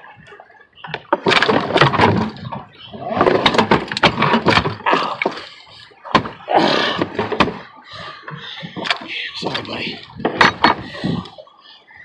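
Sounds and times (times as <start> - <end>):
fish thrashing against boat: 0.8 - 11.3.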